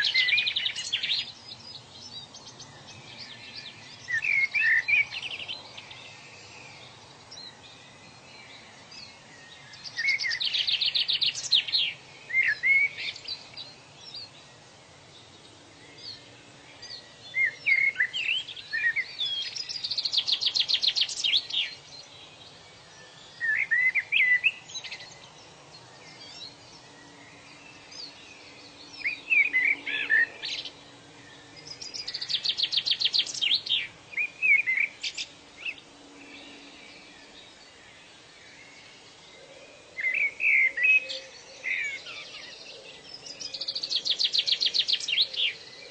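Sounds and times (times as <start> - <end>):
birds warbling and trilling: 0.0 - 45.9
faint steady hiss: 0.0 - 45.9.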